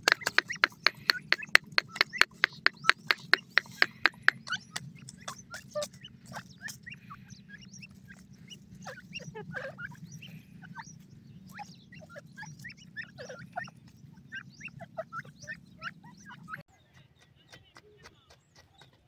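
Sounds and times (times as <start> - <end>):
steady low hum: 0.0 - 16.7
francolins chirping: 0.0 - 19.0.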